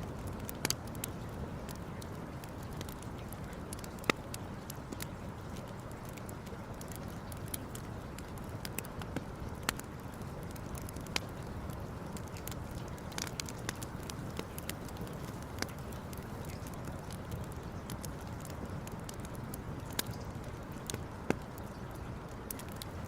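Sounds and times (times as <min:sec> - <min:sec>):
campfire crackling: 0:00.0 - 0:23.0
steady low background noise: 0:00.0 - 0:23.0.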